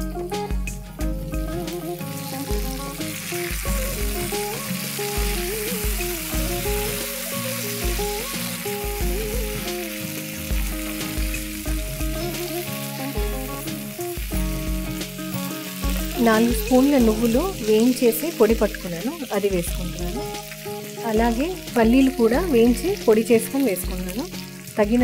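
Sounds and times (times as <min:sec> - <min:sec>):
background music: 0:00.0 - 0:25.0
vegetables sizzling in oil: 0:00.0 - 0:25.0.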